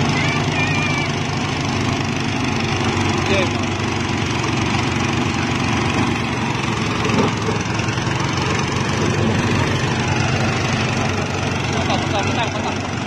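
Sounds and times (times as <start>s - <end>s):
thresher engine running: 0.0s - 13.0s.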